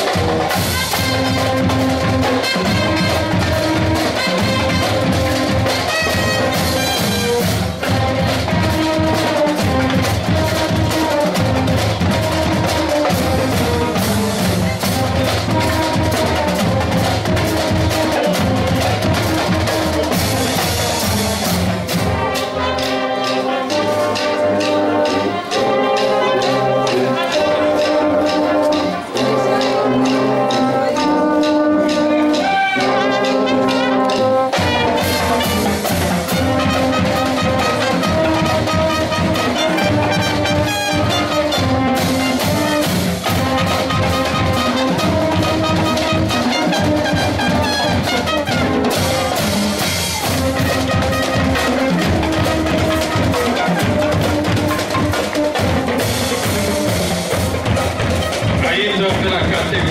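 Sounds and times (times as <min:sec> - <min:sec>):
drums: 0:00.0 - 0:59.9
marching band brass chords: 0:00.0 - 0:59.9.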